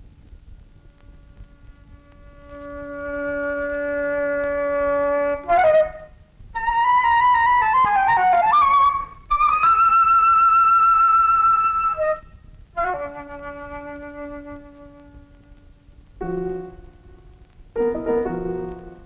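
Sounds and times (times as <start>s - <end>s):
solo wind instrument melody: 0.8s - 17.1s.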